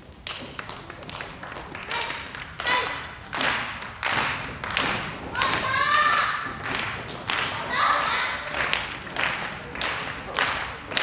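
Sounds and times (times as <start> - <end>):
audience clapping: 0.2 - 11.0.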